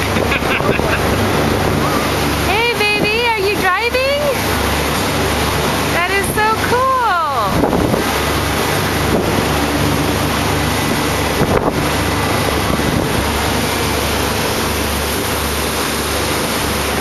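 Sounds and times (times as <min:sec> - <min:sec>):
water rushing past boat: 0:00.0 - 0:17.0
wind buffeting microphone: 0:00.0 - 0:17.0.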